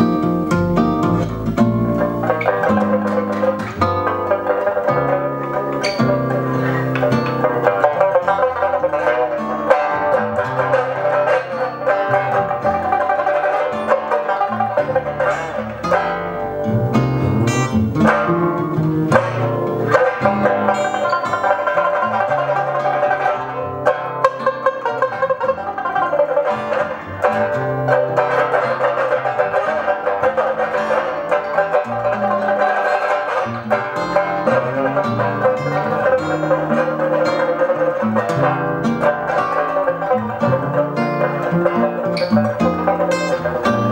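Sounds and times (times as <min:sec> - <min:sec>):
acoustic guitar: 0:00.0 - 0:43.9
plucked upright bass: 0:00.0 - 0:43.9
twangy plucked lute: 0:00.0 - 0:43.9.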